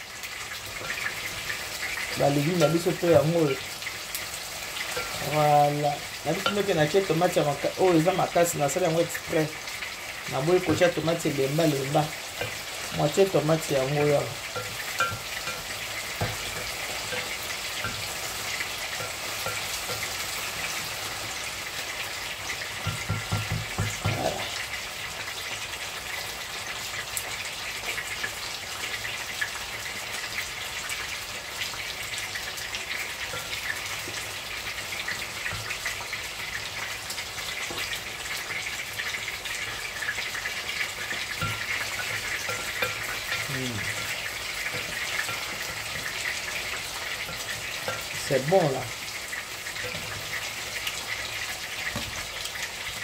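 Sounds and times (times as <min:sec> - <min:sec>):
vegetables sizzling in a pot: 0:00.0 - 0:53.0.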